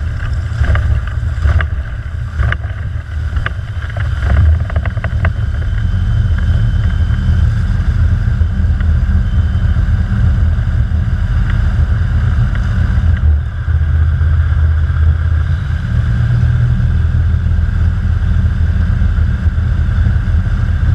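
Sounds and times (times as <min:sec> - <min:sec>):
plane engine and propeller: 0:00.0 - 0:20.9.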